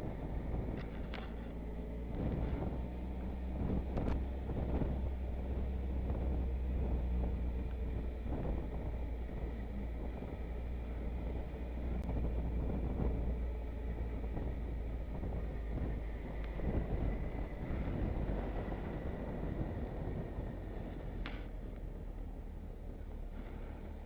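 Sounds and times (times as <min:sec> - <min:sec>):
motorcycle engine drone: 0:00.0 - 0:24.0
road noise: 0:00.0 - 0:24.0
wind rushing over microphone: 0:00.0 - 0:24.0.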